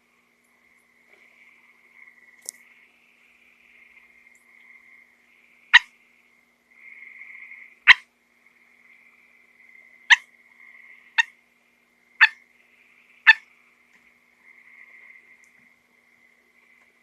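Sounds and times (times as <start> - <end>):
frog chirping calls: 0.5 - 11.4, 12.1 - 17.0.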